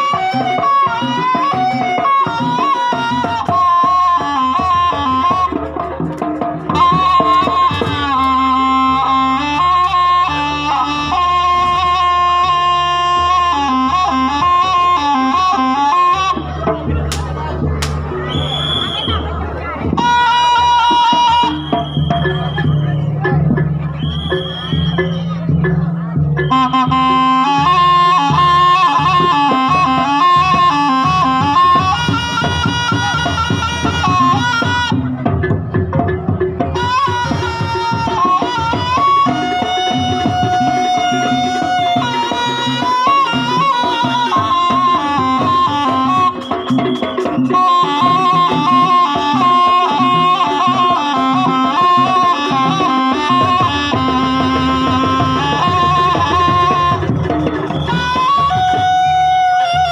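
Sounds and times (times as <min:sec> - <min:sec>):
drum strokes: 0:00.0 - 0:59.9
shawm playing reedy melody: 0:00.0 - 0:59.9.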